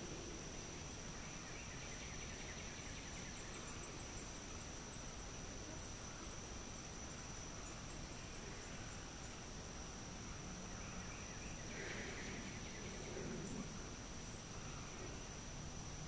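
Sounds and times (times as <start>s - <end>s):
high-pitched insect trill: 0.0s - 16.0s
low hiss: 0.0s - 16.0s.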